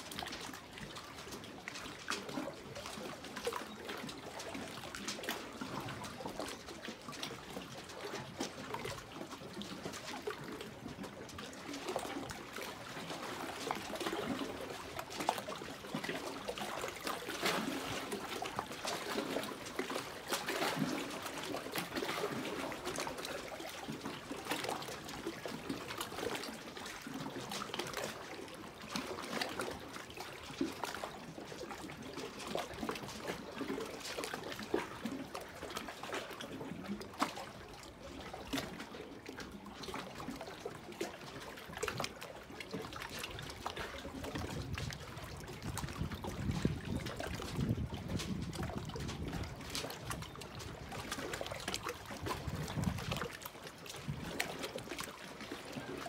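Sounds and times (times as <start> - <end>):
lake water lapping on rocks: 0.0 - 56.0.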